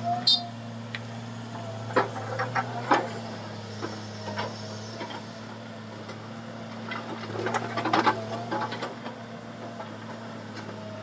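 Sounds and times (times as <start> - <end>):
excavator engine humming: 0.0 - 11.0.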